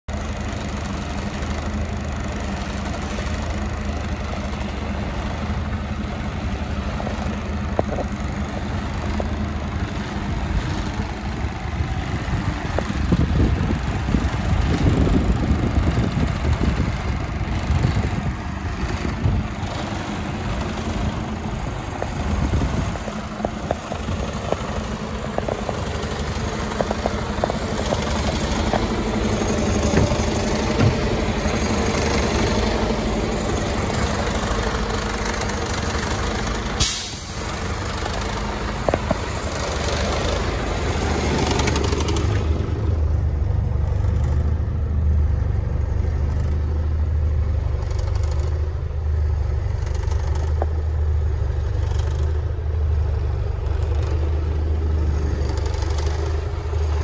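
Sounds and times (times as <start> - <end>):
diesel engine idling: 0.1 - 57.0.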